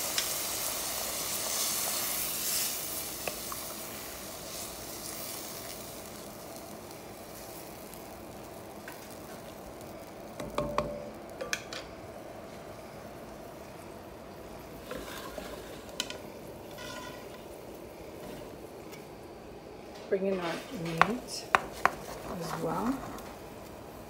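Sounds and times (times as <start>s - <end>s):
stock and vegetables sizzling: 0.0s - 24.0s.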